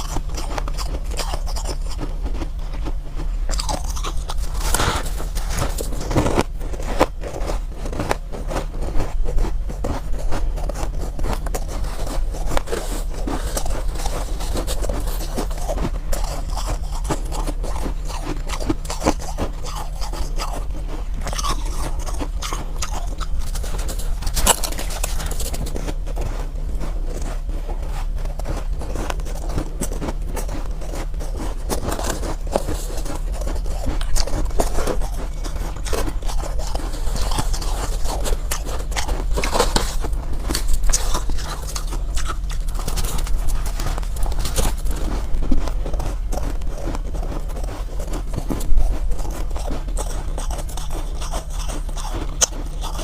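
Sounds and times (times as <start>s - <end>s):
steady low hum: 0.0s - 53.0s
ice scraping and crunching: 3.5s - 53.0s.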